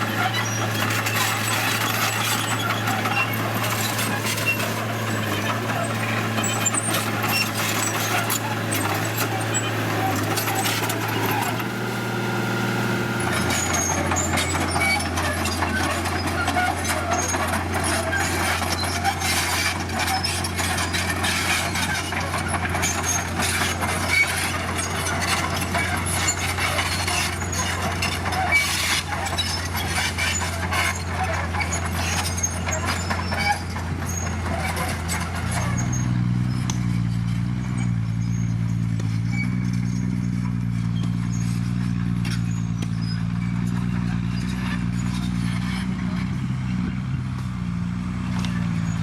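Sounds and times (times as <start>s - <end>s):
diesel construction machinery running: 0.0s - 49.0s.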